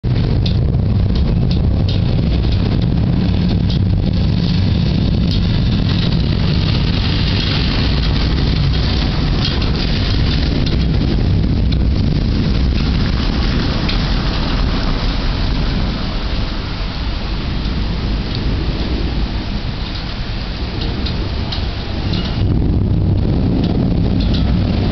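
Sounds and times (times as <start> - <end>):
low thunder rumble: 0.0 - 24.9
steady rain: 0.0 - 24.9.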